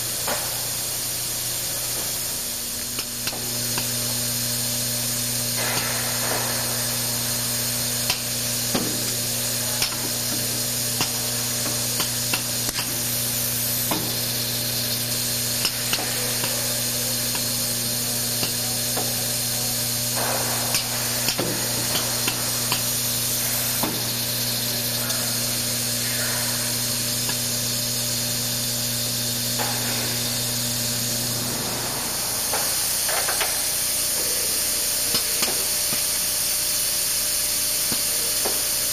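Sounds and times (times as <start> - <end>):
machine electrical hum: 0.0 - 38.9.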